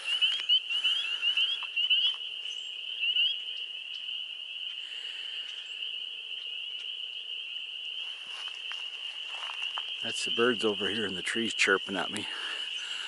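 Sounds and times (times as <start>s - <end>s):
frogs trilling: 0.0s - 13.0s.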